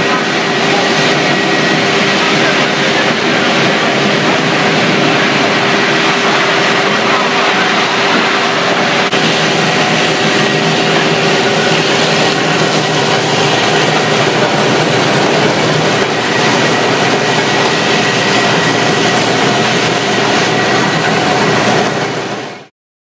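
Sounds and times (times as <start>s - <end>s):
floor tile stripper running: 0.0s - 22.7s.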